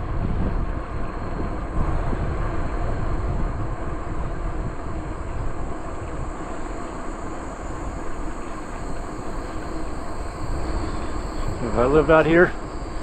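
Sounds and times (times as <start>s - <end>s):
bicycle tyres rumbling on trail: 0.0s - 13.0s
insects droning: 0.0s - 13.0s
wind buffeting microphone: 0.0s - 13.0s.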